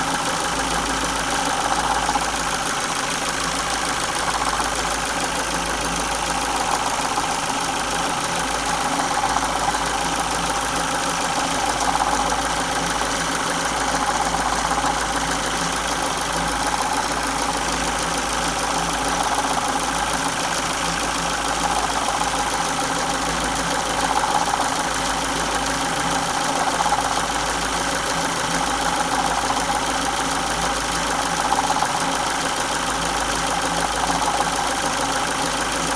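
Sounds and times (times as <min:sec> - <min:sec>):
car engine running with rattle: 0:00.0 - 0:35.9.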